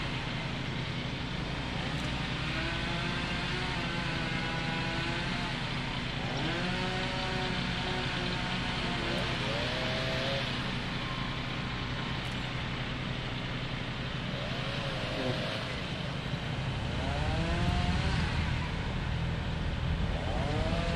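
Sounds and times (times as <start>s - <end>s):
wind: 0.0s - 20.9s.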